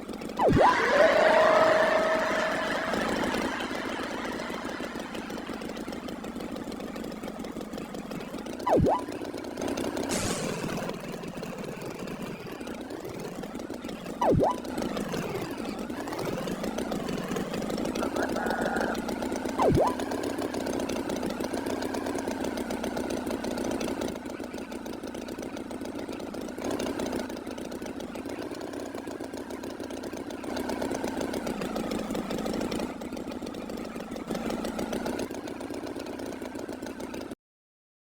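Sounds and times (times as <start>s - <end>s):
engine running with fast pulse: 0.0s - 37.4s.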